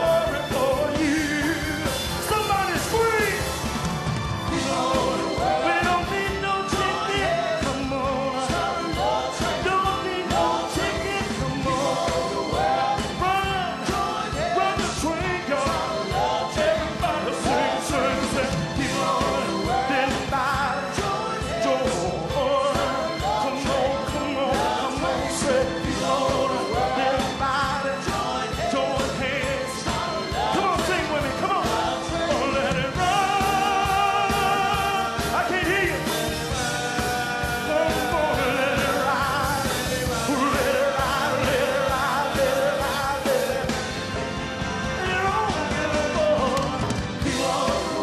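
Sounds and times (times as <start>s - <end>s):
man singing lead: 0.0s - 3.6s, 4.5s - 44.0s, 44.9s - 48.0s
drum kit steady beat: 0.0s - 48.0s.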